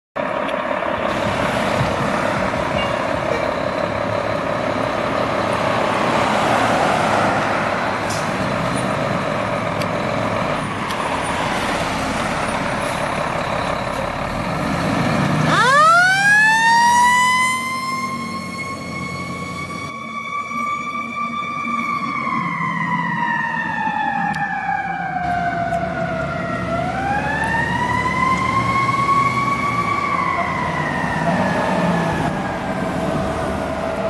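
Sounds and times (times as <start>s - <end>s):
fire engine running: 0.2s - 34.0s.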